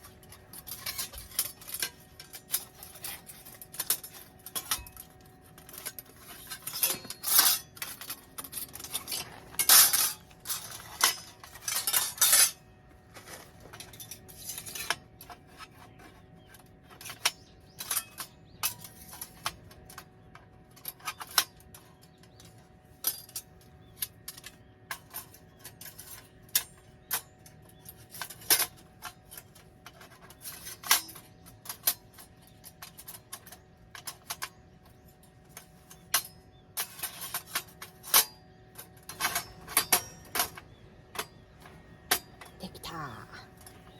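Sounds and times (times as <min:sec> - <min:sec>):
metal camp gear clattering: 0:00.0 - 0:43.9.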